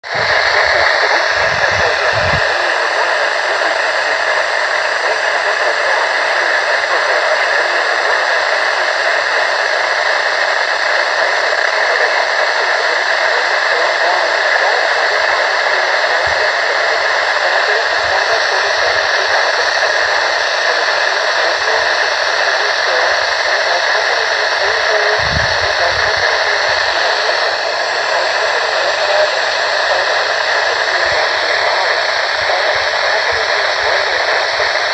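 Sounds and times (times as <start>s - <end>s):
radio static hiss: 0.0s - 34.9s.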